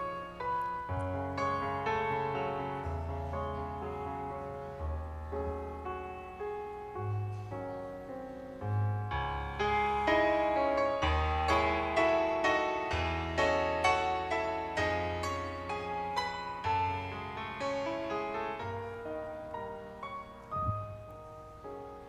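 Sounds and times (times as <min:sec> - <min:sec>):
slow piano playing: 0:00.0 - 0:22.0.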